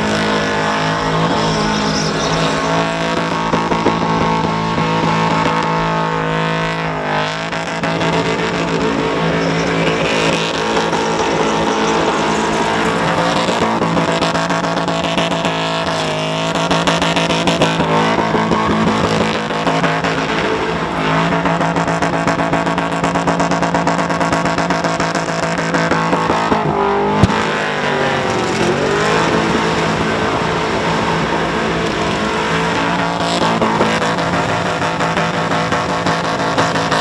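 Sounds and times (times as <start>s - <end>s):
car engine revving high: 0.0s - 37.0s.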